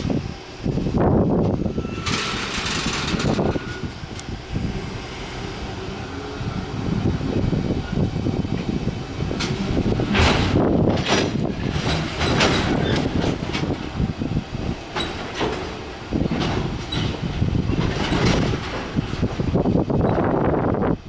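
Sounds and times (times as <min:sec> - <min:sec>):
freight train rumbling past: 0:00.0 - 0:21.0
wheels clacking over rail joints: 0:01.4 - 0:20.6.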